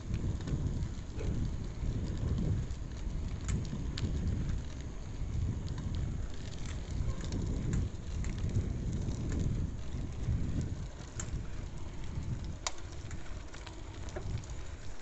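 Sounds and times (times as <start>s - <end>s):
tyre noise on road: 0.0s - 15.0s
wind buffeting microphone: 0.0s - 15.0s.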